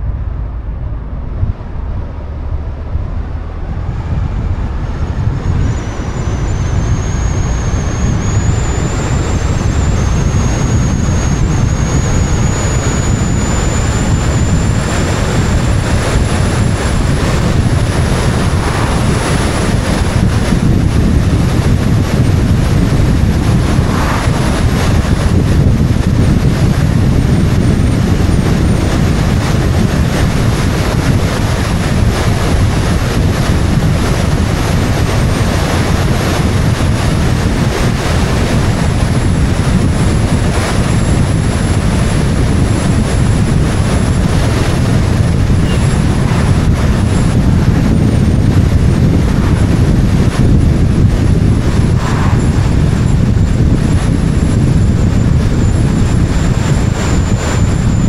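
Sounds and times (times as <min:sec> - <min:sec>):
tyre and road noise: 0:00.0 - 0:58.0
wind rushing over microphone: 0:00.0 - 0:58.0.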